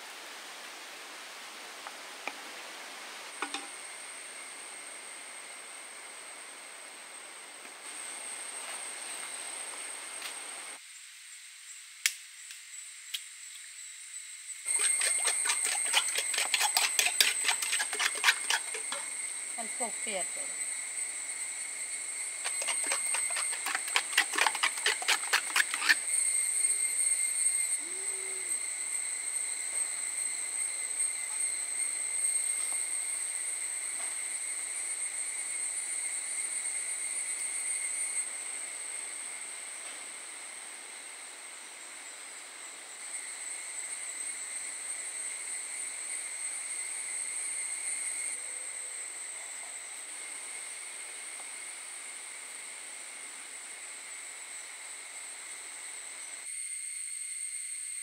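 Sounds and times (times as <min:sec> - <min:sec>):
insect chirring: 0:08.0 - 0:58.0.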